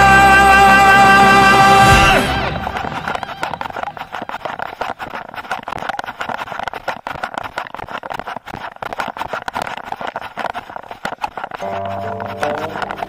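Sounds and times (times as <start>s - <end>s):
footfalls on concrete: 1.9s - 13.0s.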